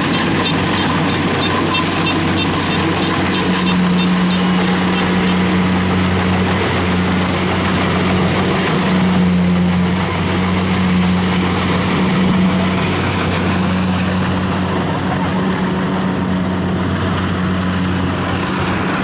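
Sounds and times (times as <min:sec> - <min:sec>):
diesel engine running under load: 0:00.0 - 0:19.0
machinery clattering and hissing: 0:00.0 - 0:19.0.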